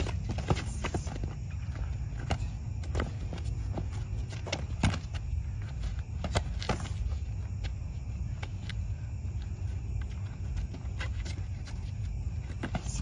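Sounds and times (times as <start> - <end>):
boxing thumps and footwork scuffs: 0.0 - 13.0.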